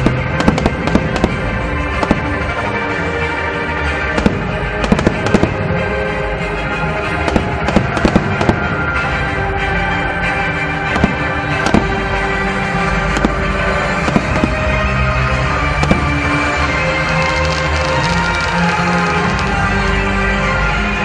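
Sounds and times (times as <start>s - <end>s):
fireworks bursting: 0.0s - 20.1s
music playing: 0.0s - 21.0s.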